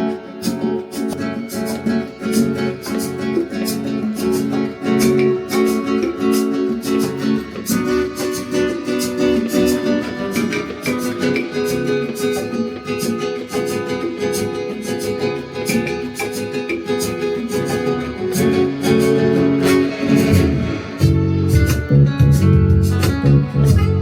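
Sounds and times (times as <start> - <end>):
acoustic guitar picked notes: 0.0 - 24.0
low strummed guitar chords: 0.0 - 24.0.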